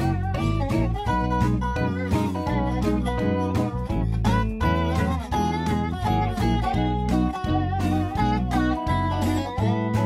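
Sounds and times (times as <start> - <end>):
guitar-led tune: 0.0 - 10.0
steady bass: 0.0 - 10.0.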